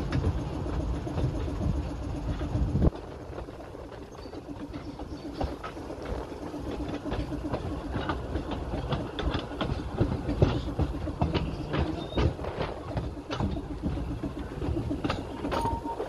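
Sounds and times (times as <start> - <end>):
train rumbling: 0.0 - 16.0
wheels clattering on track: 0.0 - 16.0.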